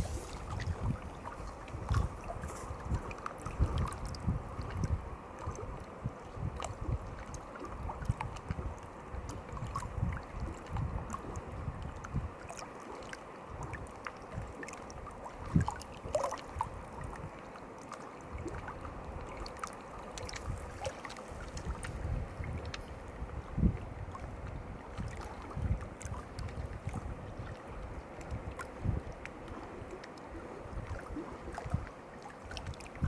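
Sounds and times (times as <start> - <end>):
wind buffeting microphone: 0.0 - 12.4, 15.4 - 17.4, 20.2 - 33.0
water lapping and splashing: 0.0 - 33.0
small ticks and drips: 0.1 - 33.0.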